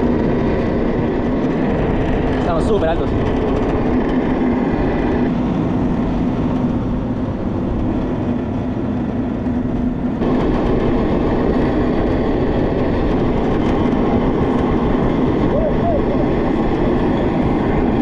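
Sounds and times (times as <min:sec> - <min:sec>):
cable car mechanical hum: 0:00.0 - 0:18.0
rough low rumble: 0:00.0 - 0:18.0.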